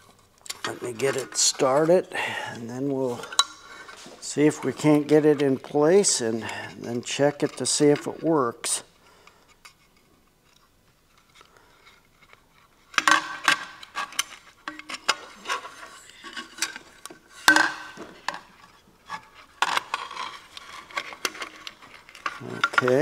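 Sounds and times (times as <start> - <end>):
metal clinks and scrapes: 0.0 - 8.2, 11.2 - 23.0.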